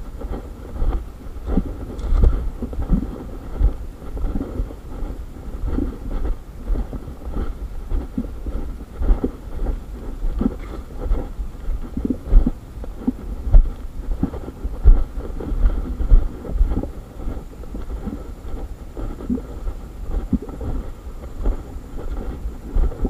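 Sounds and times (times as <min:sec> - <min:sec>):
camera jostling thuds and rumble: 0:00.0 - 0:23.0.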